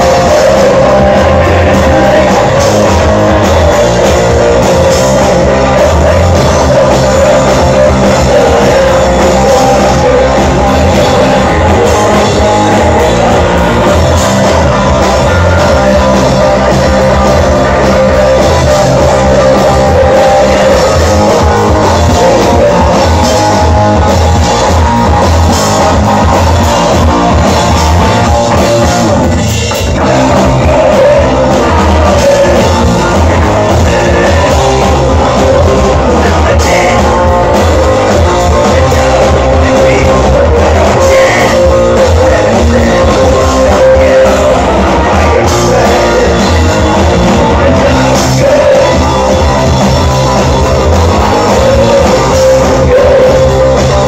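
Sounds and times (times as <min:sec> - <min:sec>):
distorted electric guitars: 0:00.0 - 0:54.0
drum kit: 0:00.0 - 0:54.0
person singing into microphone: 0:00.0 - 0:54.0.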